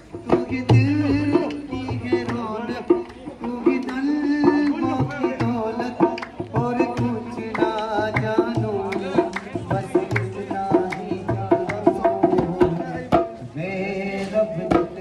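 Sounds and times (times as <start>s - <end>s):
drum accompaniment: 0.0s - 15.0s
man singing folk song: 0.0s - 15.0s.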